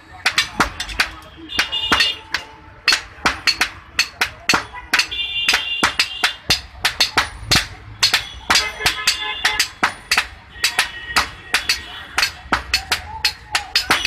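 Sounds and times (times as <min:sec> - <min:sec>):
hammer striking iron on anvil: 0:00.1 - 0:14.0.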